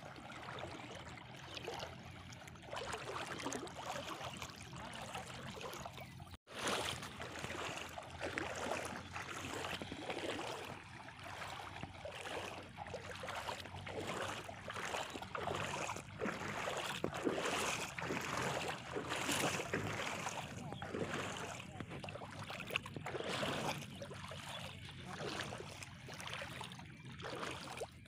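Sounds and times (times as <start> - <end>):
water sloshing around wading legs: 0.0 - 28.0.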